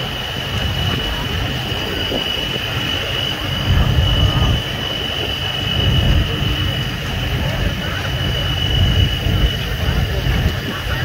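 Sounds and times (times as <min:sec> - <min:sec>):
high-pitched whine: 0:00.0 - 0:11.0
wind buffeting microphone: 0:00.0 - 0:11.0.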